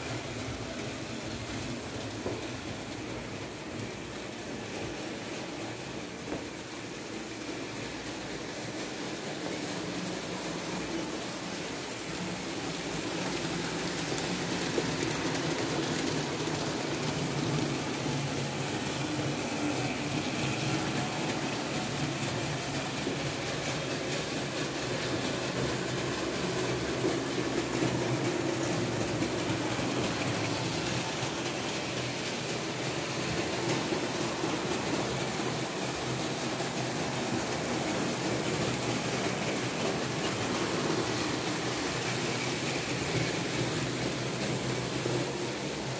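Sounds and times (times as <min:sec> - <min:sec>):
wheels rolling on metal rails: 0:00.0 - 0:45.9.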